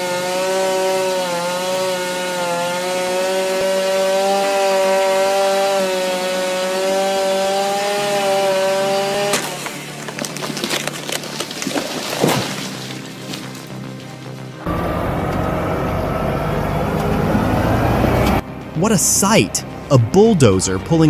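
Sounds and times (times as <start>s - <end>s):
chainsaw cutting wood: 0.0s - 13.4s, 14.6s - 18.4s.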